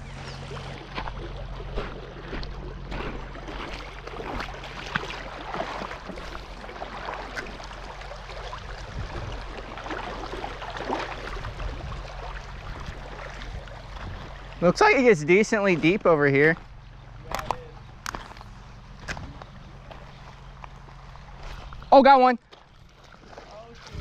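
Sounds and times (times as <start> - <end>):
creek water splashing: 0.0 - 24.0.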